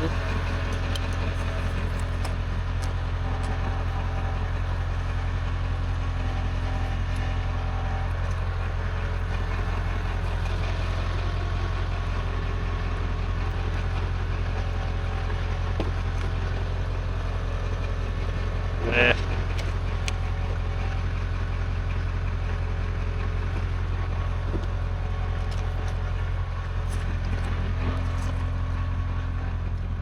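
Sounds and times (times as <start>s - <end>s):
vehicle engine droning: 0.0s - 30.0s.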